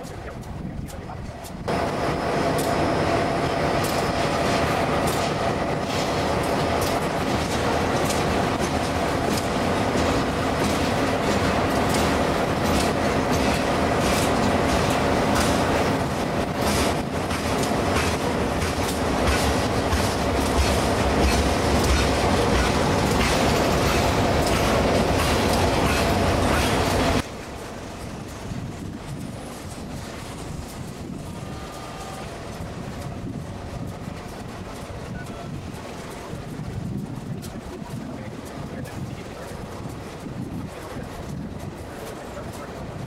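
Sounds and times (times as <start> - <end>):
wheels rumbling on rail: 0.0 - 43.0
wheels clicking over rail joints: 3.7 - 43.0.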